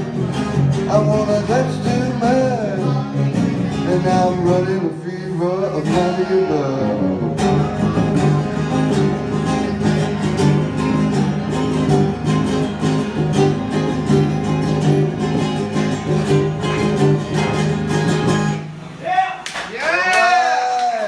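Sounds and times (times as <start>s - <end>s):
electric guitar playing: 0.0s - 19.0s
strummed acoustic guitar: 0.0s - 19.0s.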